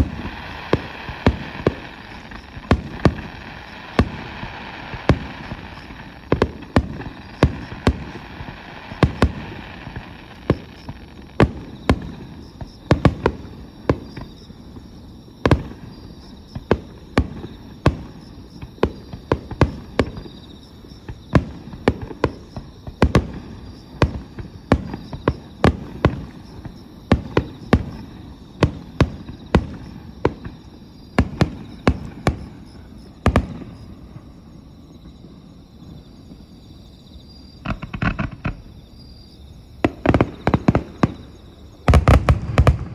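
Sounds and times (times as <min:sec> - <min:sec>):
fireworks bangs and crackles: 0:00.0 - 0:36.6, 0:37.4 - 0:38.9, 0:39.7 - 0:42.9.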